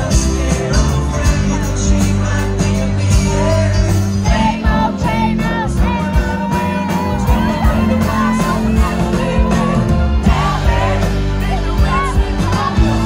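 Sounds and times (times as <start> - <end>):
lead vocals: 0.0 - 13.0
live rock band playing: 0.0 - 13.0.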